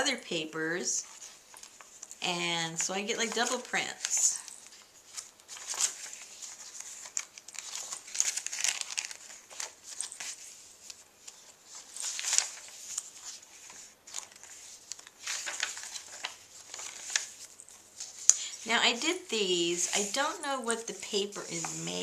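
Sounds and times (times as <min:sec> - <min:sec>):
paper pages turning and rustling: 0:01.0 - 0:02.2, 0:02.8 - 0:22.0.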